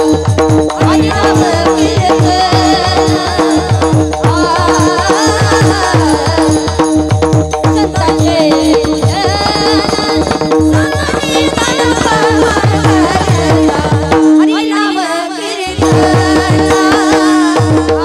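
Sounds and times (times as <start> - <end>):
regular drum beat: 0.0 - 14.6, 15.7 - 18.0
veena drone: 0.0 - 18.0
women singing: 0.7 - 7.0, 7.6 - 18.0.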